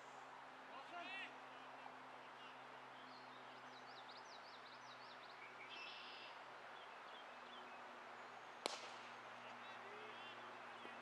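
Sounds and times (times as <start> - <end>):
outdoor background noise: 0.0 - 11.0
songbird singing: 1.4 - 11.0.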